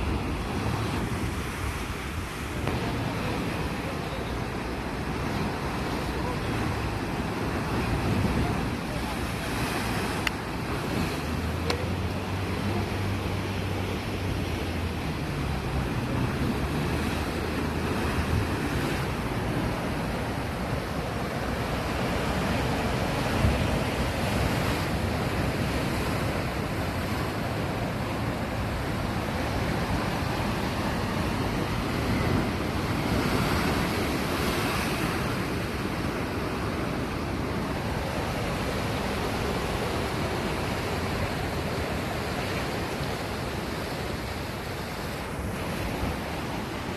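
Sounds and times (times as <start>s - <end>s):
sea waves washing on shore: 0.0s - 46.9s.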